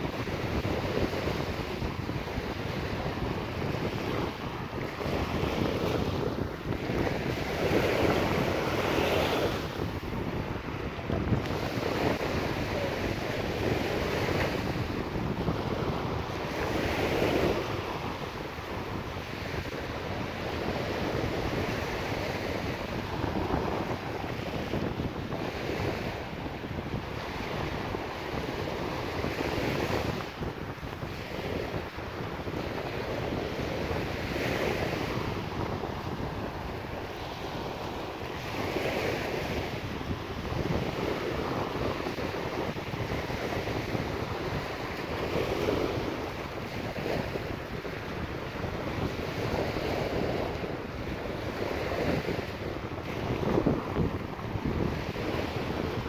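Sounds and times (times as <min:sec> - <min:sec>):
small waves washing onto beach: 0:00.0 - 0:56.0
wind rumbling on microphone: 0:00.0 - 0:56.0.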